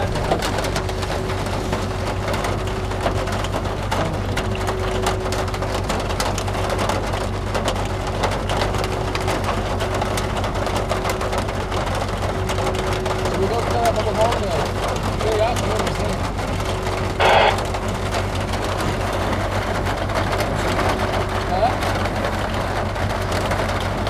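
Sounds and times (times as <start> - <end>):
rain pattering on a vehicle: 0.0 - 24.0
steady low hum: 0.0 - 24.0
steady rushing noise: 0.0 - 24.0.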